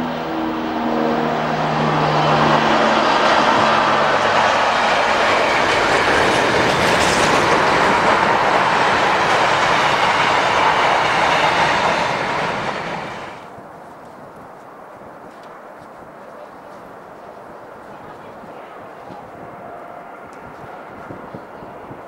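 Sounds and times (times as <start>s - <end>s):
freight train passing at speed: 0.0s - 22.0s.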